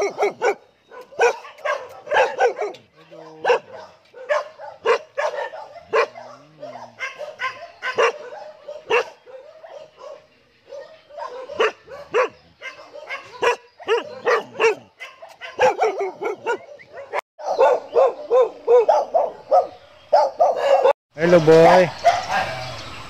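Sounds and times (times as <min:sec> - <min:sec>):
dogs barking: 0:00.0 - 0:21.0, 0:22.0 - 0:22.6.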